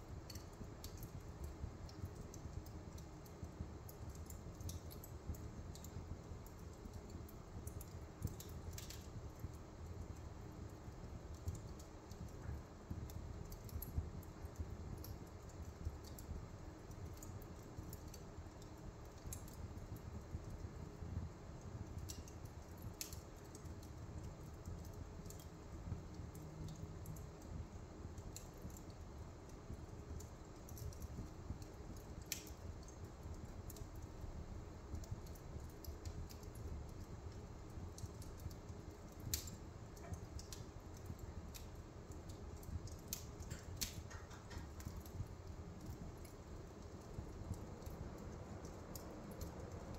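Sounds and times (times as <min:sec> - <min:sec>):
low rumble of flames: 0:00.0 - 0:49.9
wood fire crackling: 0:00.0 - 0:49.9.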